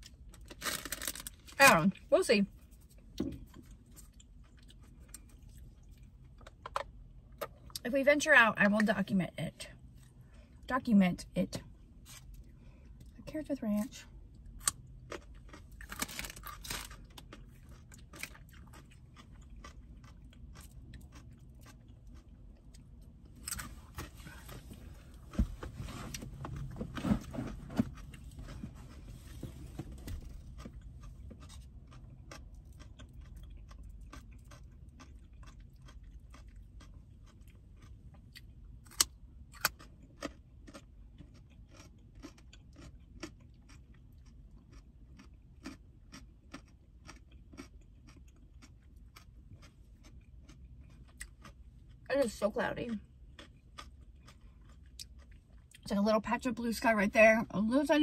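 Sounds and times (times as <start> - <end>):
chewing crunchy carrots: 0.0 - 7.8, 11.5 - 56.4.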